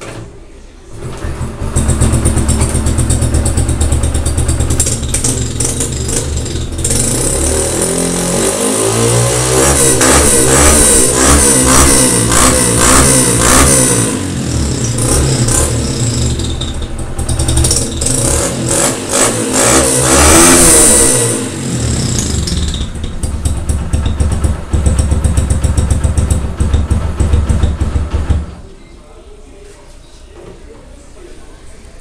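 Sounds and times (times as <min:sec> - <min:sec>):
motorcycle engine revving and idling: 0:00.9 - 0:28.6.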